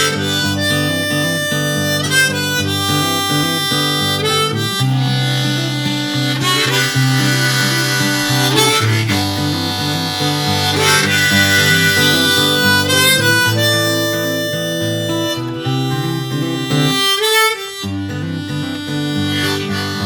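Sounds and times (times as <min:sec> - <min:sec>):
acoustic guitar accompaniment: 0:00.0 - 0:20.0
harmonica solo with bending notes: 0:00.0 - 0:20.0.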